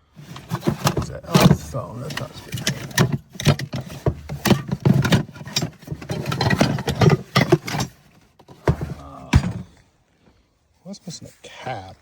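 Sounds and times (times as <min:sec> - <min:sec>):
clattering knocks and rattles: 0:00.1 - 0:09.8.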